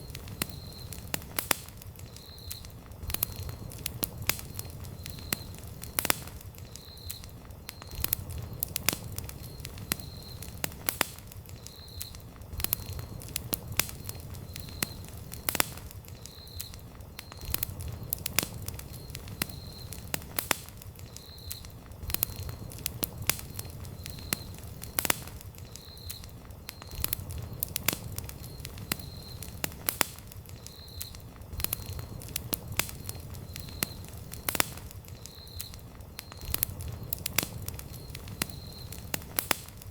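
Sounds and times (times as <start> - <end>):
campfire crackling and popping: 0.0 - 39.9
flames rumbling: 0.0 - 39.9.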